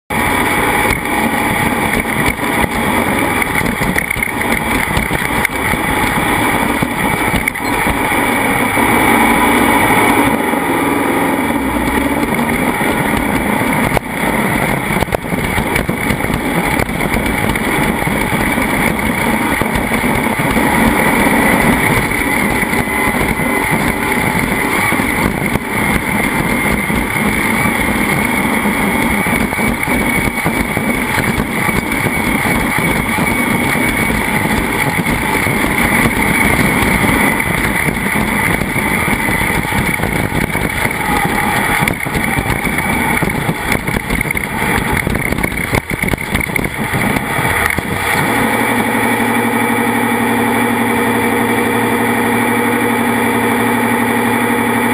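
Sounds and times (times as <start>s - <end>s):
racing engine running loud: 0.1s - 54.9s.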